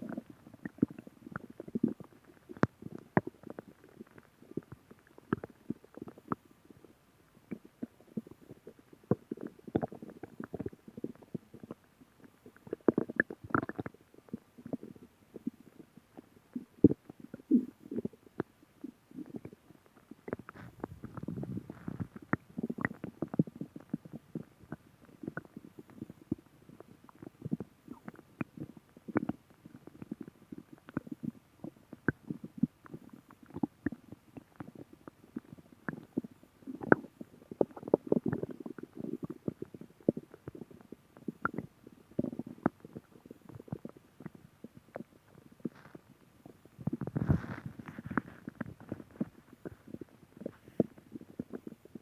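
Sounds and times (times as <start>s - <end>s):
stomach growling: 0.0s - 52.0s.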